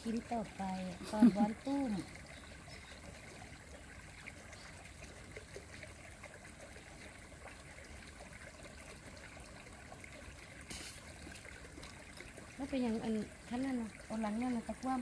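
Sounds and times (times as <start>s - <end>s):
low steady water-like hiss: 0.0s - 15.0s.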